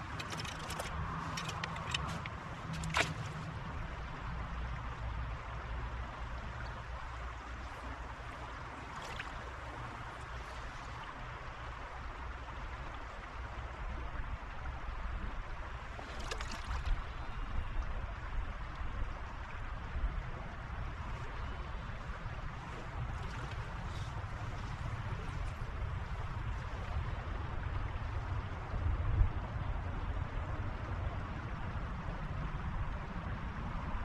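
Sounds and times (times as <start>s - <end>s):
shallow stream flowing: 0.0s - 34.0s.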